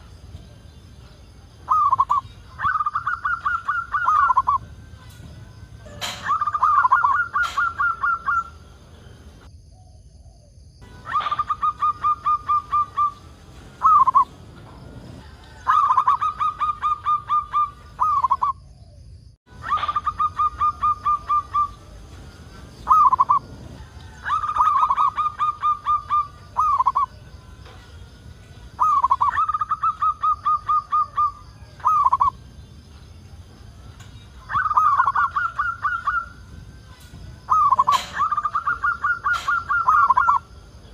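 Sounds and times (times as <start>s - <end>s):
dove cooing song: 0.0s - 32.7s, 34.1s - 40.9s.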